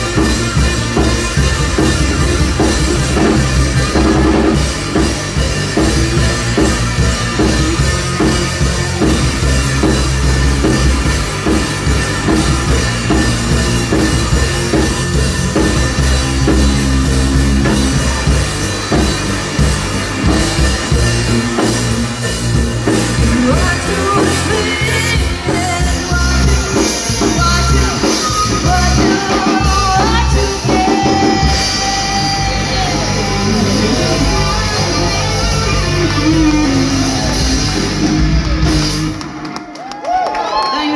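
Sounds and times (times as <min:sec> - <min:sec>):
electric bass: 0:00.0 - 0:39.6
drum kit: 0:00.0 - 0:40.7
electric guitar: 0:00.0 - 0:40.9.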